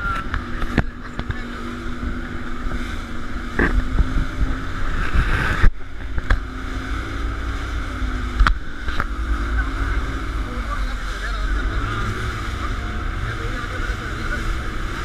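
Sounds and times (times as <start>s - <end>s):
boat engine running: 0.0s - 15.0s
boat thumping over waves: 0.0s - 15.0s
water splashing along hull: 0.0s - 15.0s
wind buffeting microphone: 0.0s - 15.0s.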